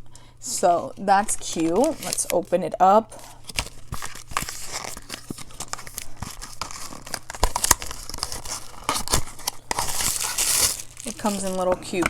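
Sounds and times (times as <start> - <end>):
packaging tearing and crinkling: 1.1 - 2.4, 3.1 - 12.0.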